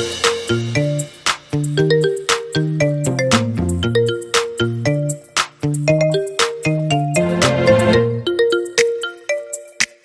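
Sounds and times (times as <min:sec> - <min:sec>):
electronic plucked melody with beat: 0:00.0 - 0:10.0.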